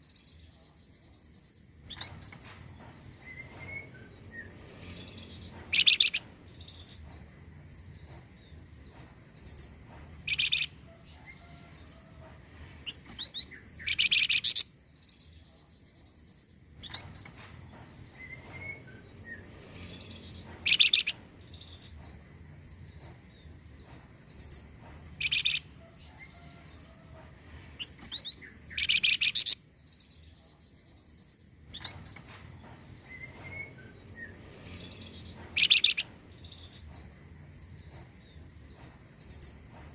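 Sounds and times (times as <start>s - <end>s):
recorded bird song high chirps: 0.0s - 2.4s, 3.1s - 11.8s, 12.8s - 17.3s, 18.0s - 26.7s, 27.8s - 32.2s, 32.9s - 39.8s.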